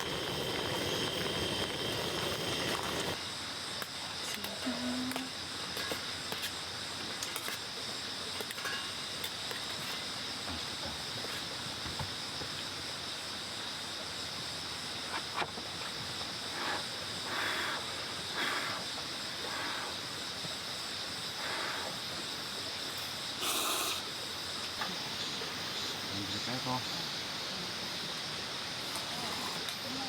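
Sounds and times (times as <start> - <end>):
steady high hiss: 0.0 - 30.0.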